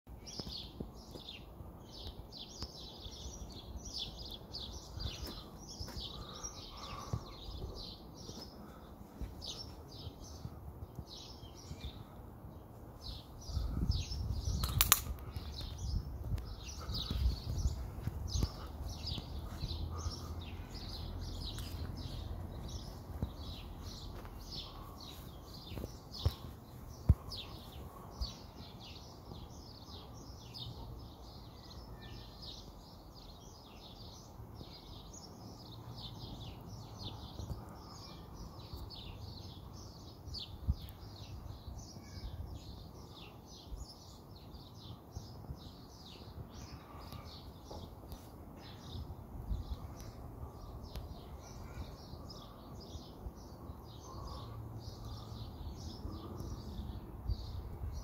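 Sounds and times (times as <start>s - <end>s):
small birds chirping: 0.1s - 58.0s.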